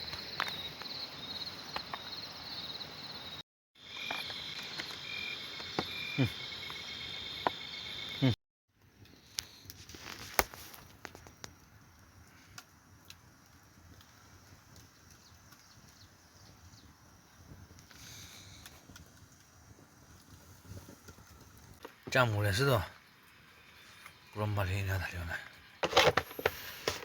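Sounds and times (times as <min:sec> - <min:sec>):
insects chirping and trilling: 0:00.0 - 0:08.4, 0:09.0 - 0:27.0.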